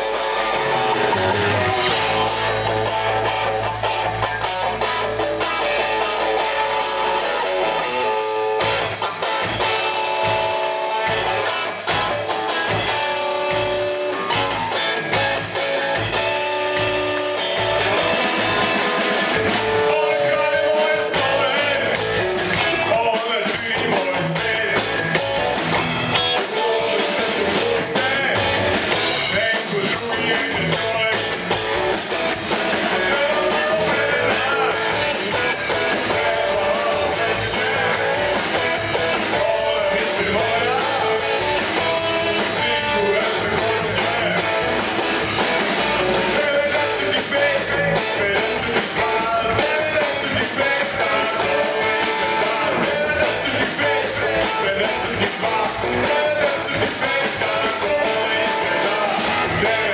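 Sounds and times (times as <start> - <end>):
bass guitar: 0.0 - 59.9
drum kit: 0.0 - 59.9
electric guitar melody: 0.0 - 59.9.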